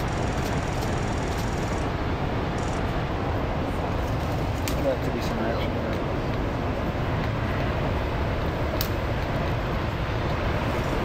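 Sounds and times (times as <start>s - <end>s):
heavy surf: 0.0s - 11.0s
wind: 0.0s - 11.0s.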